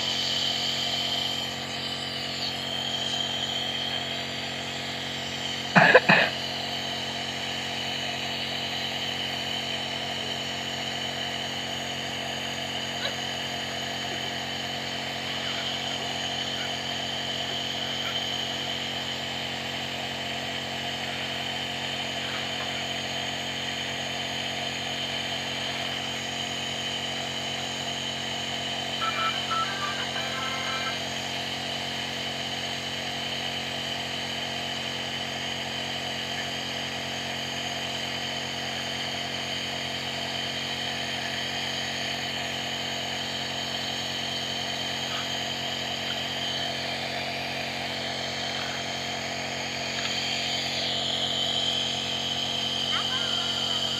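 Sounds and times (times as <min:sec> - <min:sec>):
nebulizer motor hum: 0:00.0 - 0:53.9.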